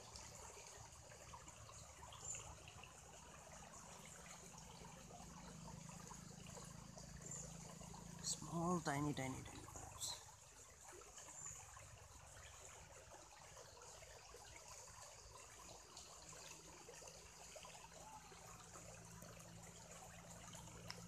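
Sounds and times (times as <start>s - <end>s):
shallow water trickling and splashing: 0.0s - 21.0s.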